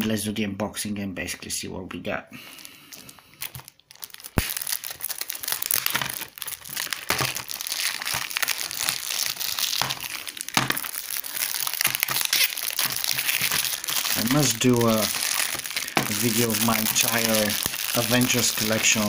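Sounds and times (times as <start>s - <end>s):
plastic wrap crinkling and tearing: 2.6s - 19.0s.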